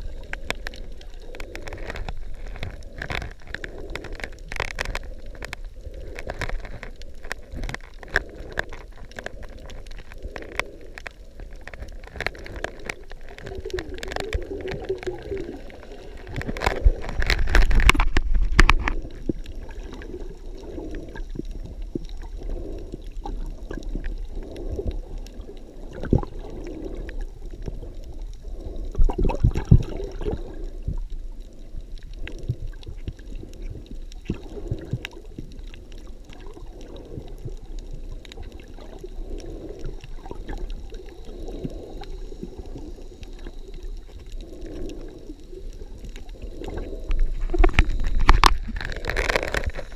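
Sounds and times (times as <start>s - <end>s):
underwater gurgling and sloshing: 0.0s - 49.9s.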